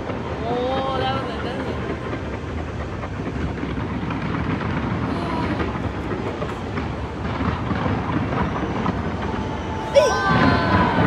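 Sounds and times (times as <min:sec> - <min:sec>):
fireworks crackling bangs: 0:00.0 - 0:11.0.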